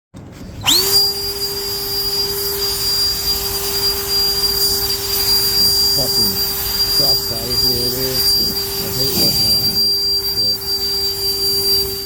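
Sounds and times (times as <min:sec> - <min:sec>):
jet blower motor whine: 0:00.2 - 0:12.0.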